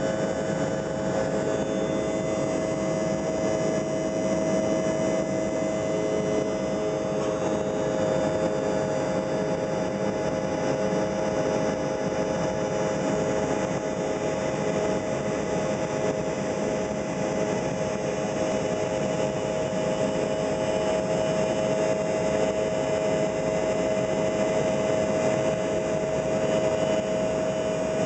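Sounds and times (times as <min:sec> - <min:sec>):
engine whine: 0:00.0 - 0:28.0.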